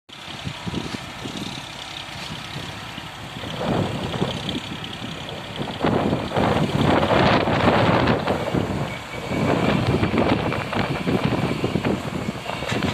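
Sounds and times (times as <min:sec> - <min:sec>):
excavator diesel engine running: 0:00.1 - 0:12.9.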